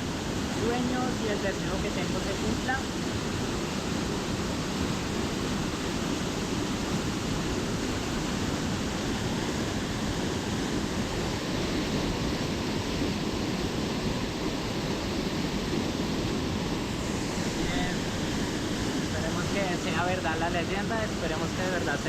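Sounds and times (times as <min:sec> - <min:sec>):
waterfall rushing into pool: 0:00.0 - 0:22.0.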